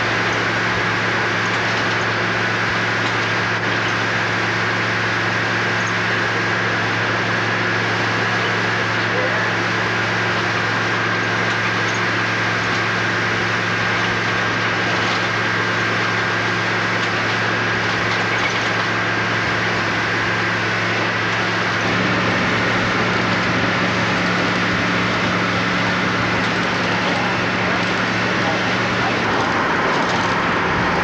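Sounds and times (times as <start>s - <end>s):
engine and road drone: 0.0s - 31.0s.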